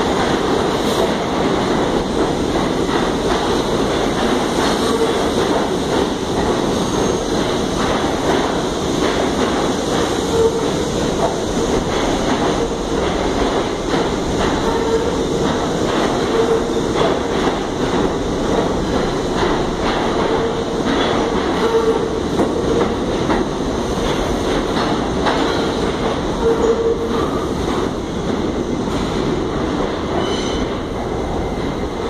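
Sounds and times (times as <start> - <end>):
subway train rumble: 0.0 - 32.0
subway wheels clicking over joints: 0.0 - 32.0.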